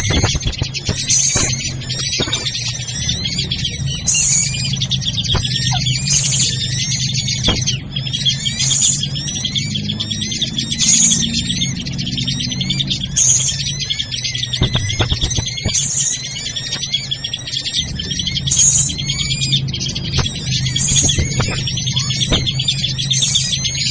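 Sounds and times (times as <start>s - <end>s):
chorus of bird calls: 0.0s - 23.9s
high squealing bird call: 0.0s - 23.9s.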